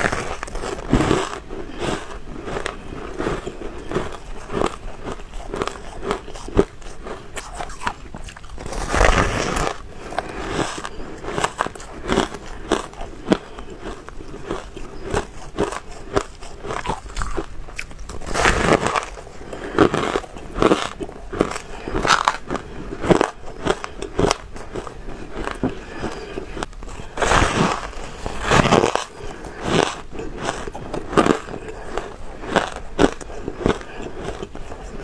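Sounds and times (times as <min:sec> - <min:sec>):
ice being chewed: 0:00.0 - 0:35.0.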